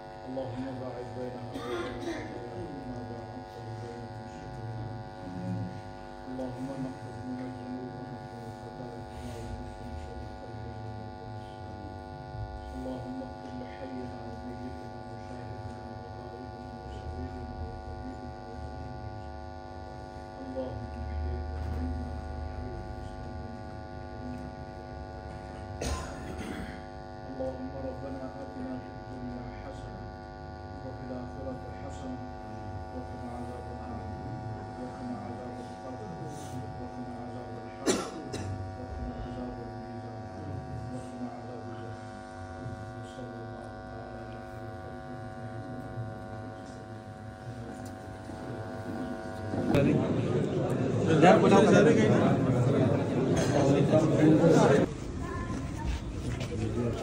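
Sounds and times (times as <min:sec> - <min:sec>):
electrical mains hum: 0:00.0 - 0:57.0
low murmuring voices: 0:00.0 - 0:57.0.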